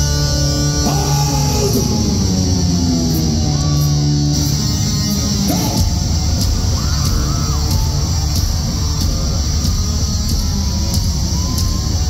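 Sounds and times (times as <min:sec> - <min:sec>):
live hard rock band: 0:00.0 - 0:12.0.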